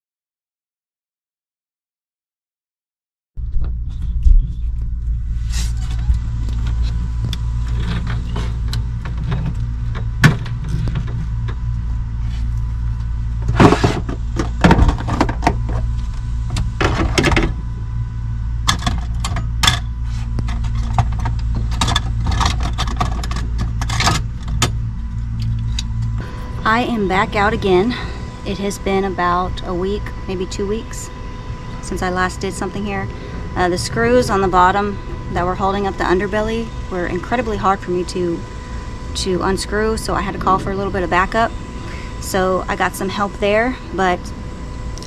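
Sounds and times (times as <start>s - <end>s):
steady low hum: 3.4s - 45.0s.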